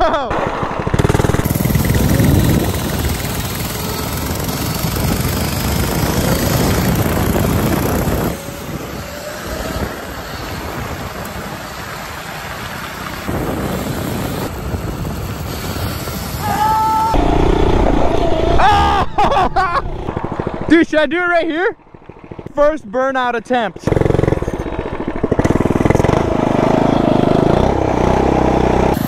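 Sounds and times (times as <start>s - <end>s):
mini bike engine running: 0.0s - 20.9s, 21.5s - 22.8s, 23.5s - 29.0s.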